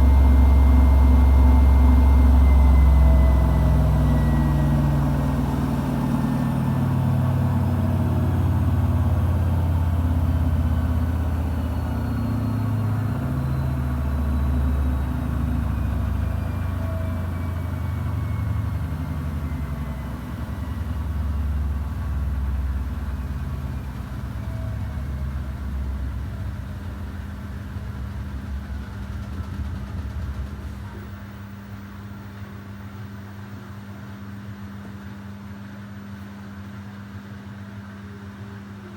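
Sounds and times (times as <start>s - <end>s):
low drum rumble: 0.0s - 32.3s
washing machine motor whine: 0.0s - 33.3s.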